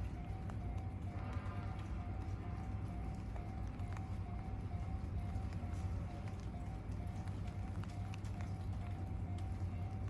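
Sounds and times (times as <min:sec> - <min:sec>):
level-crossing alarm ringing: 0:00.0 - 0:10.0
train rumble: 0:00.0 - 0:10.0.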